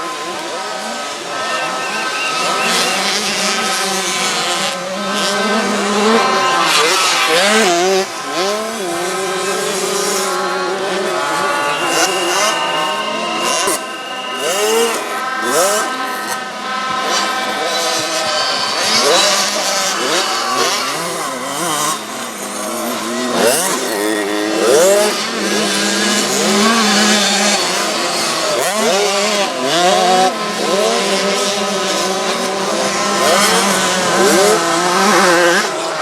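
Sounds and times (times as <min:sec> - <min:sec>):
motocross bikes revving: 0:00.0 - 0:36.0.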